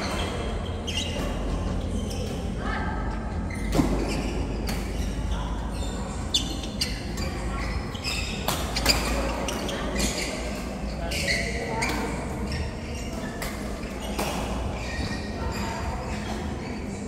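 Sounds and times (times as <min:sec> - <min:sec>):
shoe squeaks: 0:00.0 - 0:17.0.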